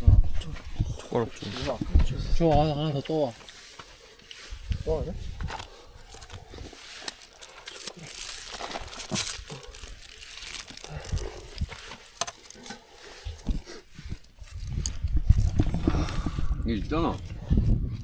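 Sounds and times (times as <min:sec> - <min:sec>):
crinkling and rustling: 0:00.4 - 0:18.0.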